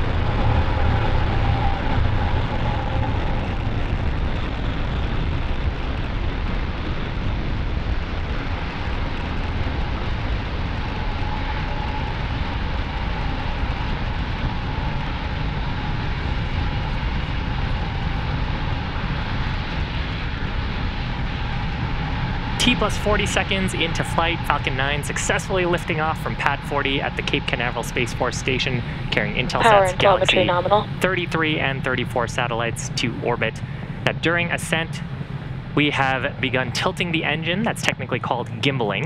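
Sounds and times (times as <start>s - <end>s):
rocket engines rumbling: 0.0s - 39.0s.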